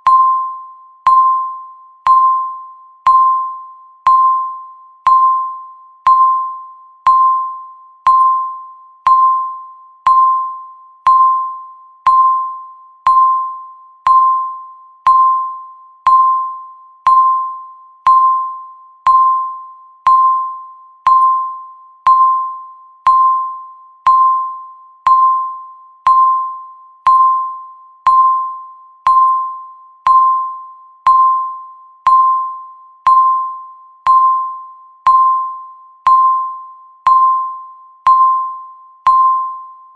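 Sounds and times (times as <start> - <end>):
timer ticking bell-like tone: 0.0 - 39.9.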